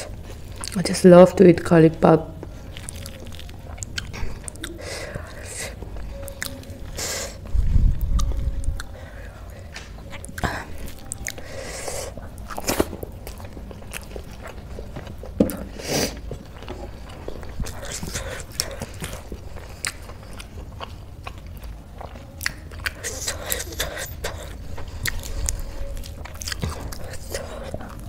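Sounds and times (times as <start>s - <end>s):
chewing and mouth smacking: 0.0s - 0.9s, 2.4s - 9.0s, 9.7s - 28.0s.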